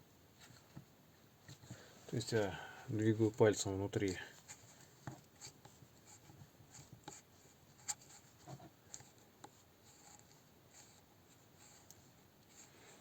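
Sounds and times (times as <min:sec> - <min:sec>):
faint metal clicks and rubbing: 0:00.4 - 0:13.0.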